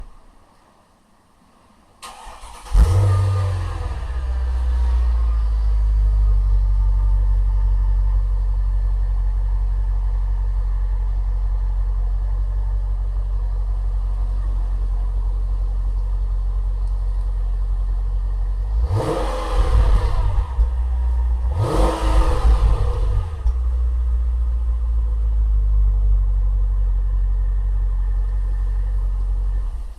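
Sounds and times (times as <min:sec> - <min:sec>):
car engine idling and revving: 0:02.1 - 0:29.9.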